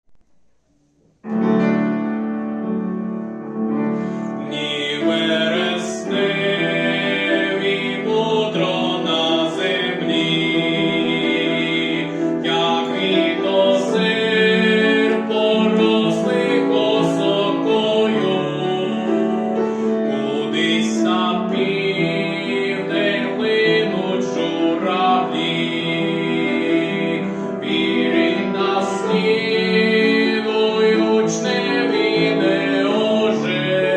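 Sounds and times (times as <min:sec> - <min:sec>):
piano accompaniment: 0:00.8 - 0:33.9
person singing art song: 0:04.0 - 0:33.9.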